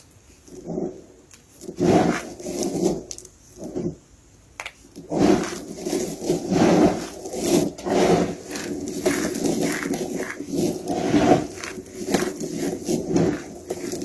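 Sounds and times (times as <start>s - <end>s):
soap crunching and scraping: 0.5s - 4.0s, 4.6s - 14.0s.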